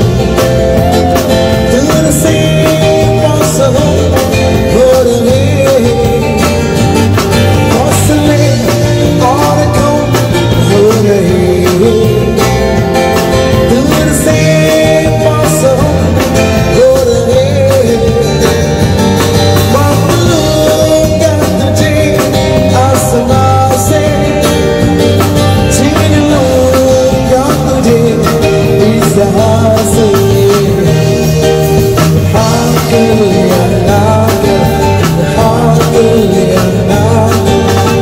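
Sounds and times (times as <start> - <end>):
amplified acoustic guitar: 0.0 - 38.0
drum kit steady beat: 0.0 - 38.0
electric guitar: 0.0 - 38.0
man singing through a pa: 0.1 - 6.8, 7.5 - 18.8, 19.5 - 38.0.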